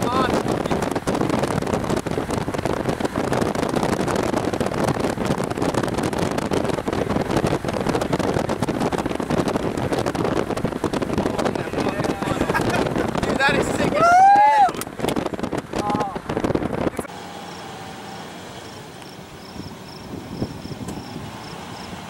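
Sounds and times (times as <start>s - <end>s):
wind buffeting microphone: 0.0s - 17.1s, 18.7s - 22.0s.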